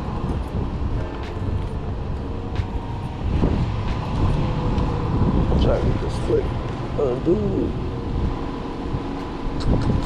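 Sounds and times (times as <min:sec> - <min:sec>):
motor vehicle rumbling: 0:00.0 - 0:10.0.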